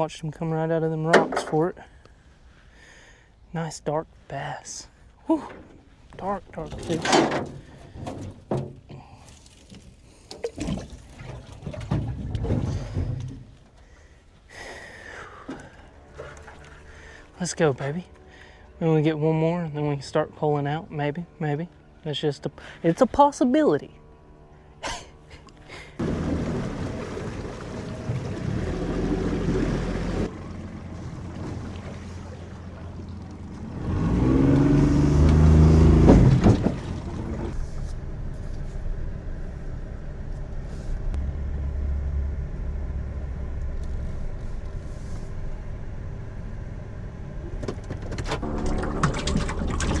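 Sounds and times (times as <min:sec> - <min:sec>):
boat motor running: 0:05.3 - 0:50.0.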